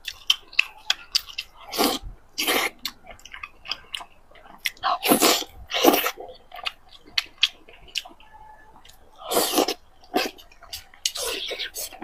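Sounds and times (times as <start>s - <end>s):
chewing with wet mouth clicks: 0.0s - 12.0s.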